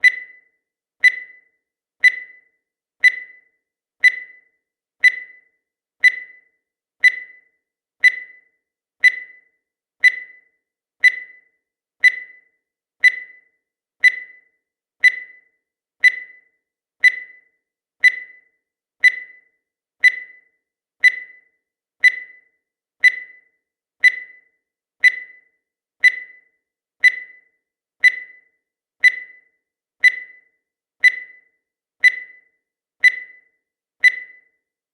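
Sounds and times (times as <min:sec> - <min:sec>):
high-pitched timer beeps: 0:00.0 - 0:34.8.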